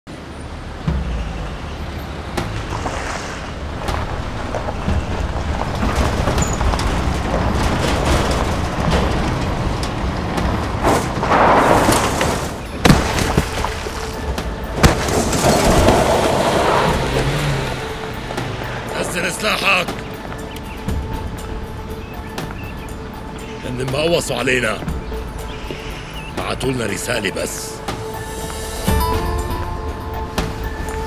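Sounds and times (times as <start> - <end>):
tense film score with booming hits: 0.4 - 31.0
car rolling over gravel: 1.3 - 29.5.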